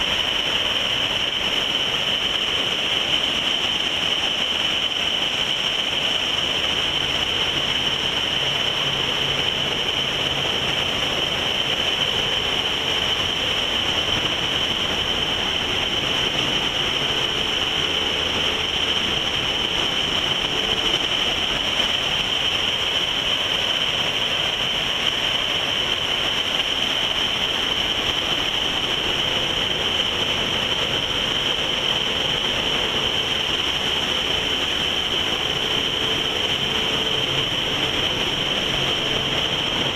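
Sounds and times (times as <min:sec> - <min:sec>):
boat rushing through water: 0:00.0 - 0:39.9.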